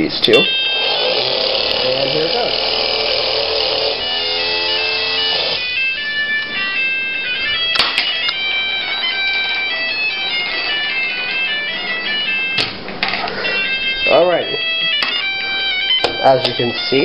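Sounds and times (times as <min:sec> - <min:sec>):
electronic alarm beeping tune: 0:00.2 - 0:17.0.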